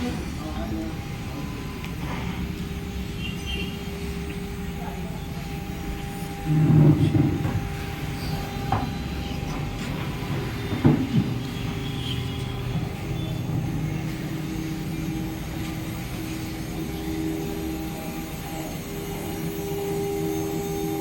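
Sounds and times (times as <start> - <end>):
cnc router humming: 0.0 - 21.0.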